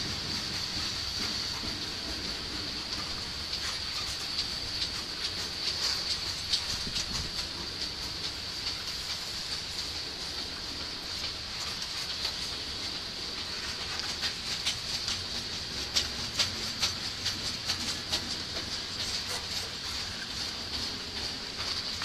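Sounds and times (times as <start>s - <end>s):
hiss of wheels on rail: 0.0s - 22.0s
wheels clicking over rail joints: 0.0s - 22.0s.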